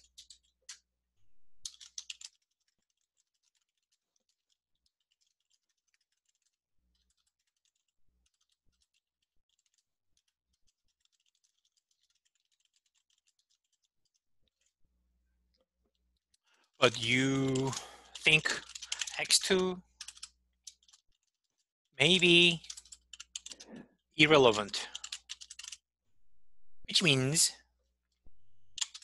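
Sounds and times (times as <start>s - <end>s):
faint keyboard typing: 0.0s - 14.8s, 15.4s - 29.0s.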